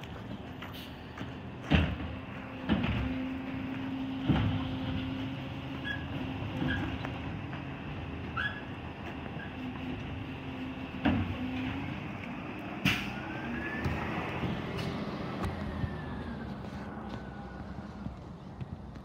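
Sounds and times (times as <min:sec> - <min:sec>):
garbage truck engine droning: 0:00.0 - 0:19.0.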